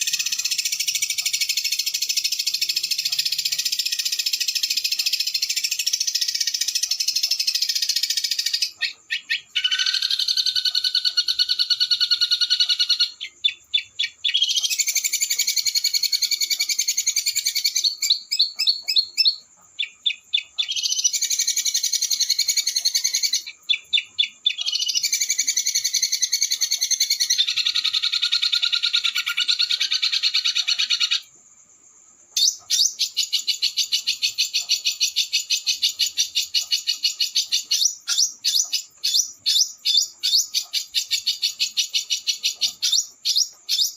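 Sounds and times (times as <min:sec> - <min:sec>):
songbird singing rapid trills: 0:00.0 - 0:43.9.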